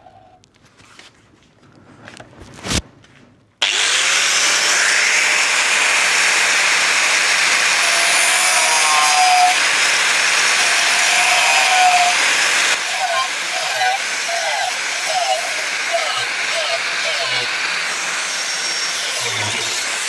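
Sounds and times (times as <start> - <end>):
angle grinder cutting steel: 3.6 - 20.0.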